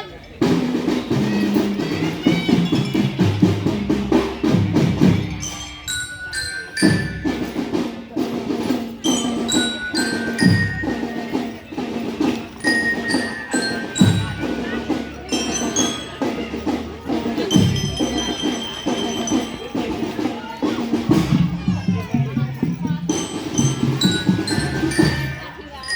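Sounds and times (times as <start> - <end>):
marching drums beating: 0.4 - 25.9
glockenspiel melody: 0.9 - 25.9.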